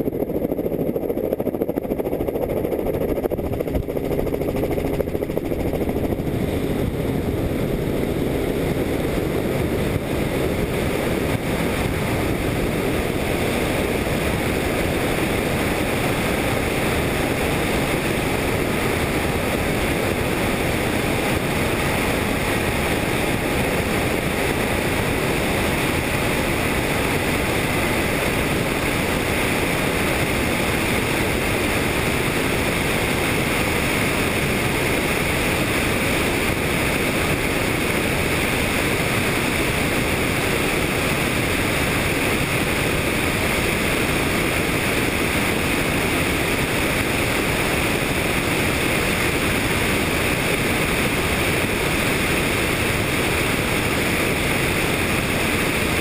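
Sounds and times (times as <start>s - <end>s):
helicopter in flight: 0.0s - 56.0s.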